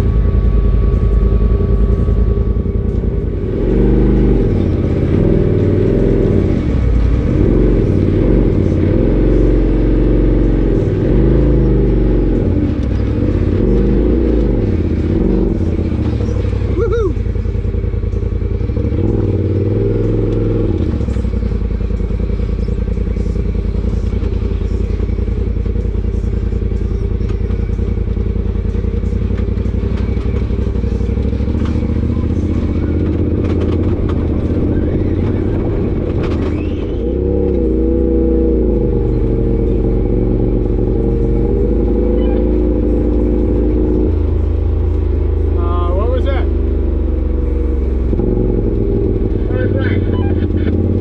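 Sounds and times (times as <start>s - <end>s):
utv engine running: 0.0s - 51.0s.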